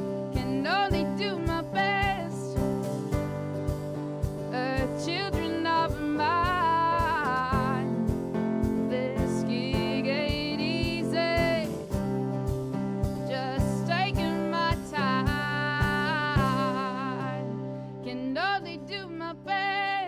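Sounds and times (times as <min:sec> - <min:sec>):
drum kit beat: 0:00.0 - 0:17.2
guitar: 0:00.0 - 0:20.0.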